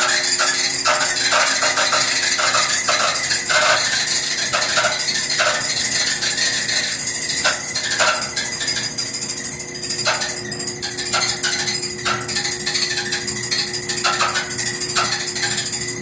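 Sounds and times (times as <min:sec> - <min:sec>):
clothes dryer running: 0:00.0 - 0:16.0
rhythmic screech: 0:00.0 - 0:16.0.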